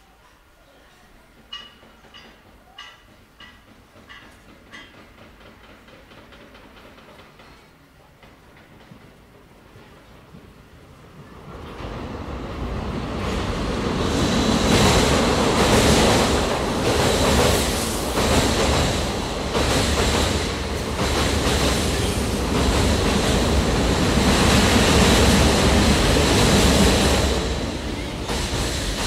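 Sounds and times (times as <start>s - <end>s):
train rumble and rail noise: 0.2s - 29.0s.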